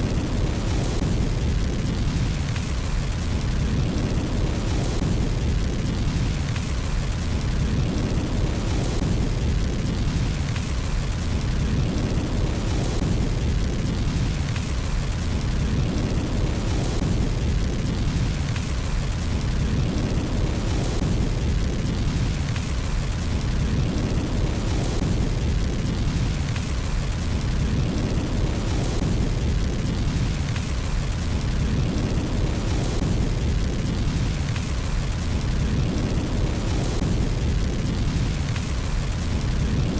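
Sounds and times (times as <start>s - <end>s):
fire crackling: 0.0s - 39.9s
fire roaring in a fireplace: 0.0s - 39.9s.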